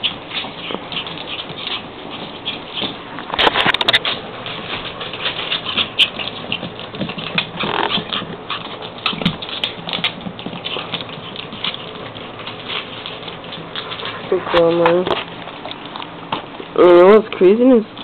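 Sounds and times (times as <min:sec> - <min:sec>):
animals scuffling at play: 0:00.0 - 0:18.0.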